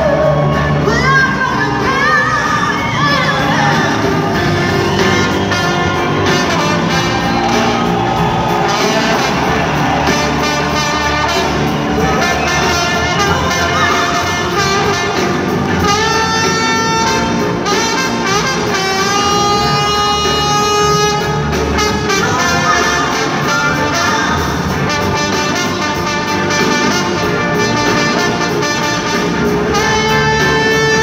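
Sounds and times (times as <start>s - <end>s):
horn section playing: 0.0s - 31.0s
live blues-rock band: 0.0s - 31.0s.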